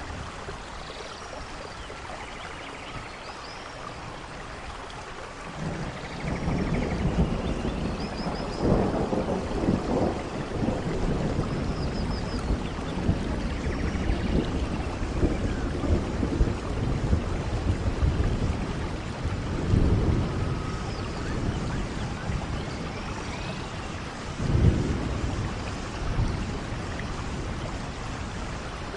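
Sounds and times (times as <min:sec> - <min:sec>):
steady rain: 0:00.0 - 0:28.9
rolling thunder: 0:05.5 - 0:28.9.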